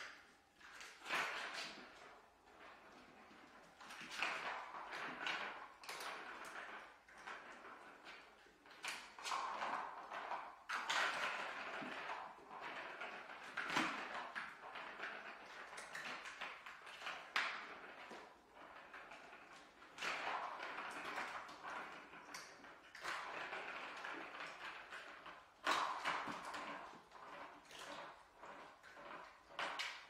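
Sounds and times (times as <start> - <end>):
ball rolling in plastic track: 0.1 - 30.0.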